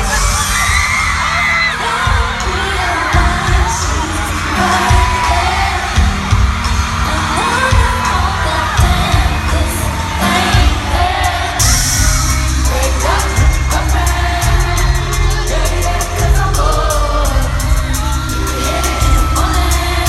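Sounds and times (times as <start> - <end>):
concert crowd: 0.0 - 20.0
pulsing bass beat with hi-hat: 0.0 - 20.0
woman singing: 0.0 - 20.0.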